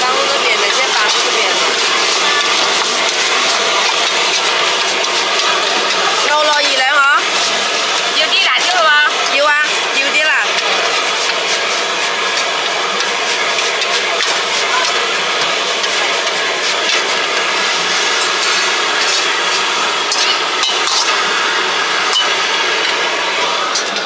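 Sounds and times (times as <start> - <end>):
metal spatula scraping a wok: 0.0 - 21.3, 22.0 - 23.1
gas burner and frying hiss: 0.0 - 24.0.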